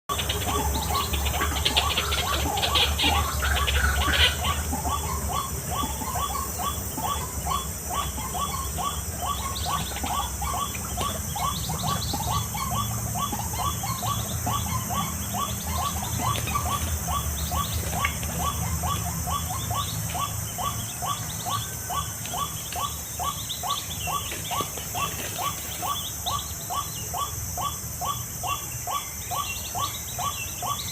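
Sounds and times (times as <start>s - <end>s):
bird calling harsh notes: 0.1s - 30.9s.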